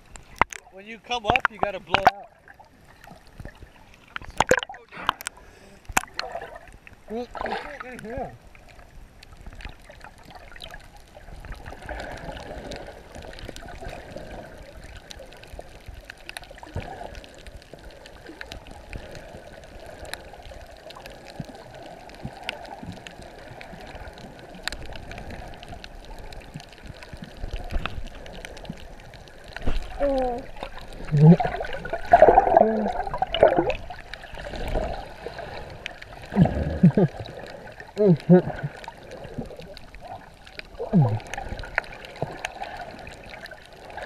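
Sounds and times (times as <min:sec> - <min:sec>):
small underwater clicks and crackles: 0:00.0 - 0:44.0
underwater wash: 0:00.0 - 0:44.0
water splashing: 0:00.0 - 0:44.0.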